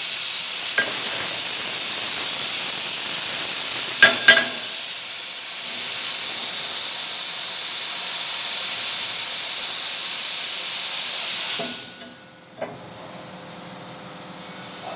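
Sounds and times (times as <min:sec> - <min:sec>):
plasma cutter hissing: 0:00.0 - 0:12.3.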